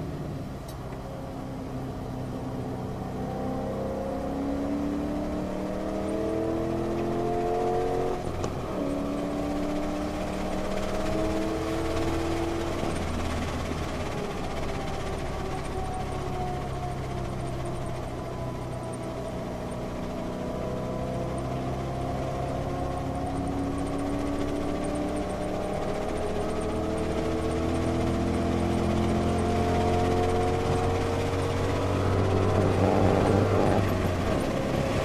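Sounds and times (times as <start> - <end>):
car engine accelerating: 0.0 - 35.0
tyre and road rush: 0.0 - 35.0.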